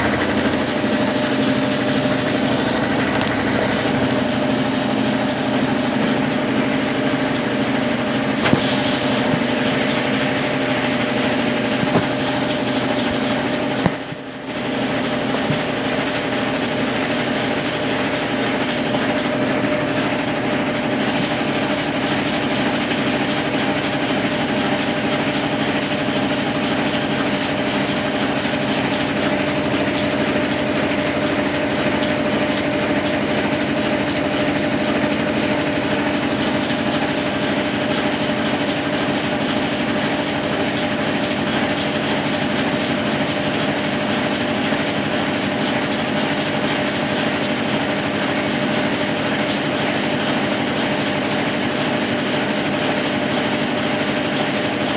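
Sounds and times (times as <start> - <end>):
washing machine churning: 0.0 - 54.9.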